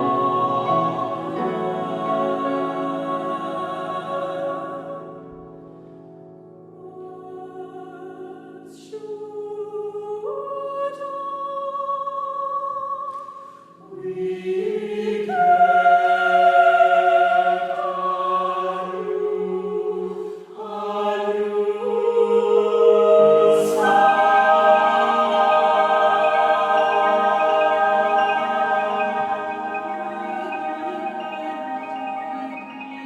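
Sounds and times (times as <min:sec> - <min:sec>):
choir singing sustained chords: 0:00.0 - 0:33.0.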